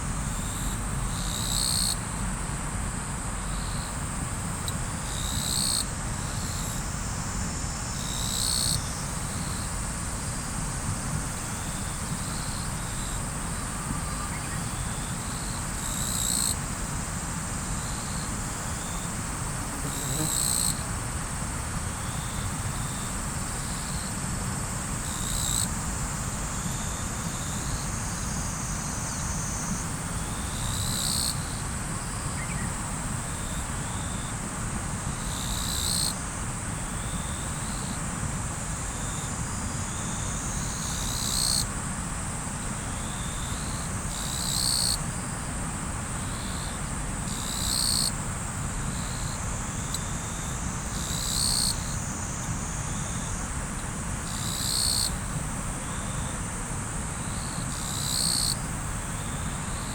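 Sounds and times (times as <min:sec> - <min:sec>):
loud insect call: 0:00.0 - 0:02.6, 0:03.4 - 0:59.9
insects chirring: 0:00.2 - 0:02.4, 0:03.5 - 0:24.1, 0:24.7 - 0:34.4, 0:35.0 - 0:38.0, 0:38.7 - 0:56.6, 0:57.2 - 0:59.9.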